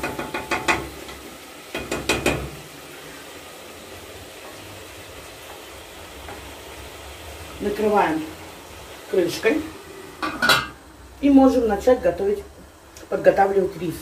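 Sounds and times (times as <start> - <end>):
meat sizzling in a pot: 0.0 - 14.0.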